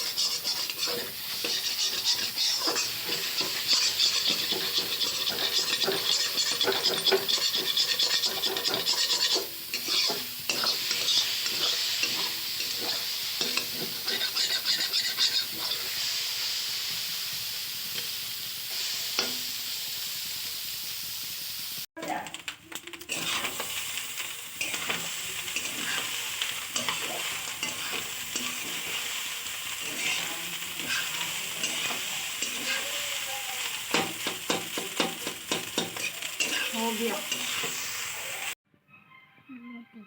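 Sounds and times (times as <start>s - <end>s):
metal spatula scraping a pan: 0.0s - 17.1s, 23.1s - 38.6s
food sizzling in a pan: 0.0s - 38.6s.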